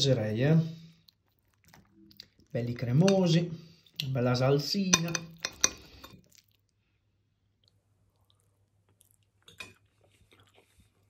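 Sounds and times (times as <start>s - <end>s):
faint chewing: 0.8s - 4.2s, 5.4s - 11.0s.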